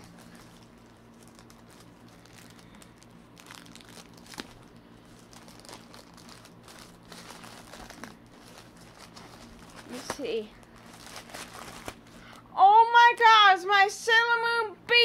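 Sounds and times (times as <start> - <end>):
crinkly packaging rustling: 0.0 - 12.4.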